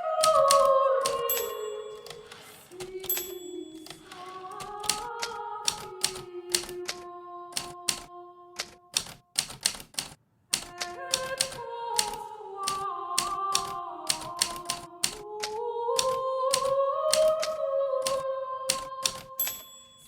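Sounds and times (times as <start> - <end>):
typewriter keys striking: 0.2 - 20.0.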